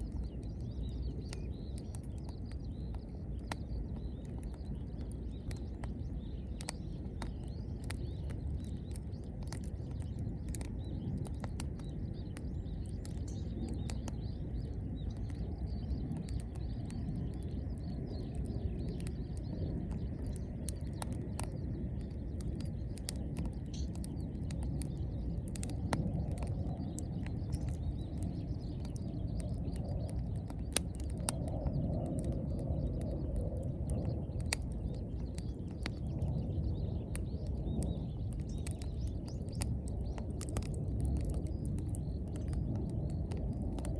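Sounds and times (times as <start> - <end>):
campfire flame rumble: 0.0 - 43.9
fire crackles and pops: 0.0 - 43.9.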